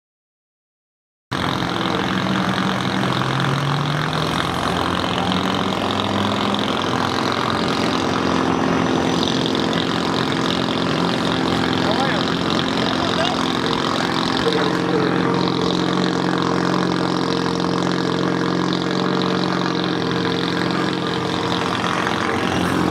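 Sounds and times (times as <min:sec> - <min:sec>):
vehicle engines running: 0:01.3 - 0:22.9.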